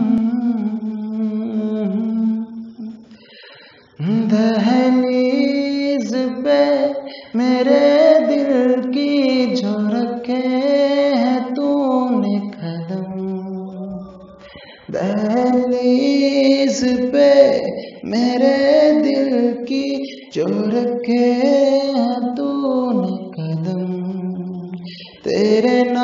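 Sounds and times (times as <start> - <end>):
solo voice singing: 0.0 - 3.1, 4.0 - 26.0.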